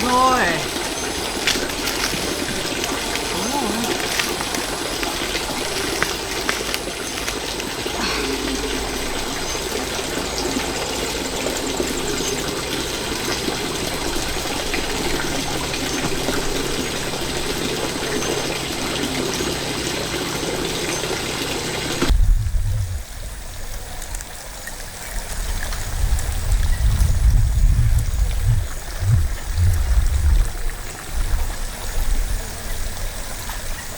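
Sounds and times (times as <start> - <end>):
trickling stream: 0.0 - 33.9.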